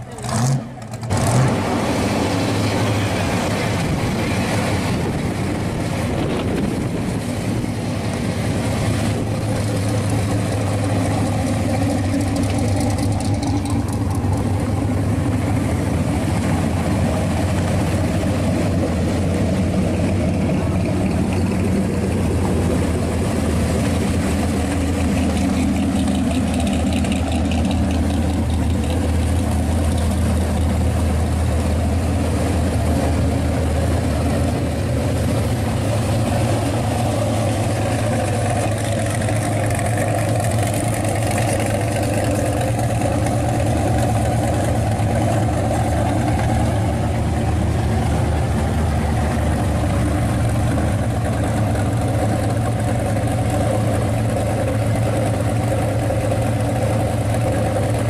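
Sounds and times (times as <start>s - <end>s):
car engines idling: 0.0s - 58.0s.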